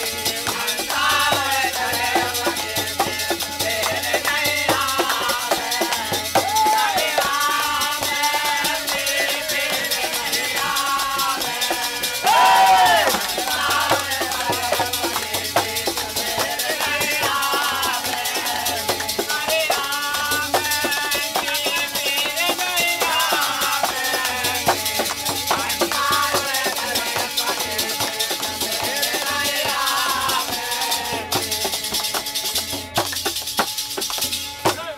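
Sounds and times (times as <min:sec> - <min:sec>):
men singing in chorus: 0:00.0 - 0:32.8
hand drum: 0:00.0 - 0:34.9
wooden clappers with jingles: 0:00.0 - 0:34.9
hand claps: 0:03.0 - 0:10.8, 0:12.2 - 0:31.0, 0:31.6 - 0:34.8.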